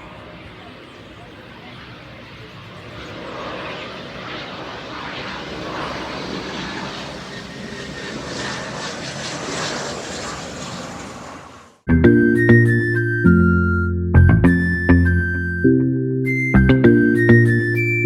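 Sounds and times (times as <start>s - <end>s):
airplane engine flying overhead: 0.0s - 18.0s.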